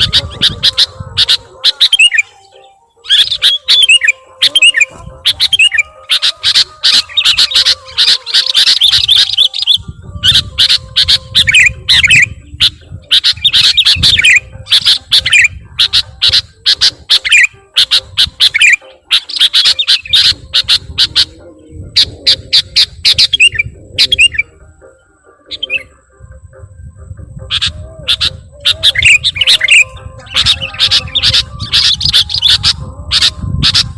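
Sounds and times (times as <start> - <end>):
bird harsh chirps and chattering: 0.0 - 26.4, 27.4 - 33.9.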